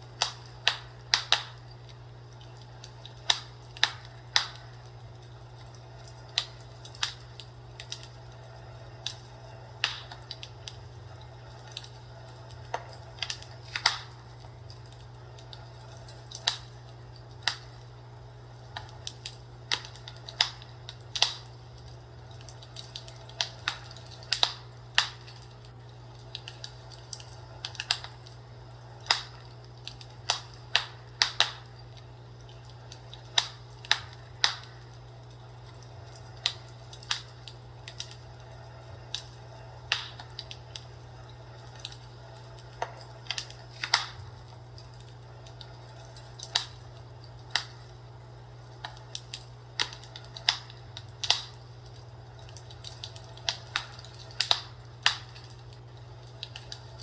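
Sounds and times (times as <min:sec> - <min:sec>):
fire crackling: 0:00.0 - 0:57.0
steady low hum: 0:00.0 - 0:57.0.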